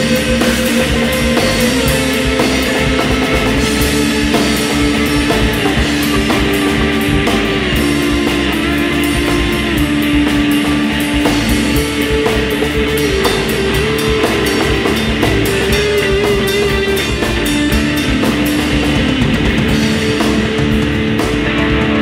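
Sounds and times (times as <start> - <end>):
electric guitar long notes: 0.0 - 22.0
steady drums: 0.0 - 22.0.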